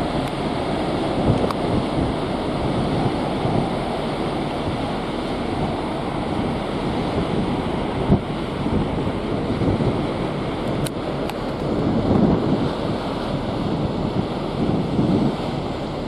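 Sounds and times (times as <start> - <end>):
wind and sea water rushing: 0.0 - 16.0
wind buffeting microphone: 0.0 - 16.0.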